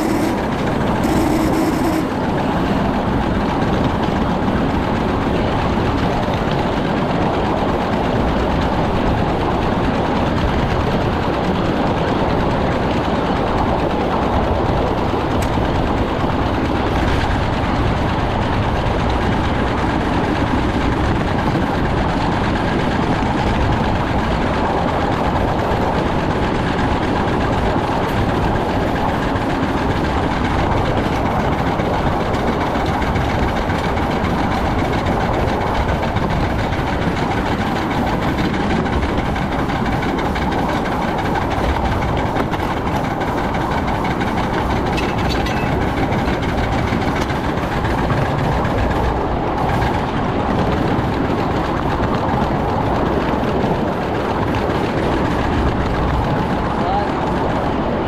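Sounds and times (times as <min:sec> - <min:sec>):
steam locomotive running: 0:00.0 - 0:58.0.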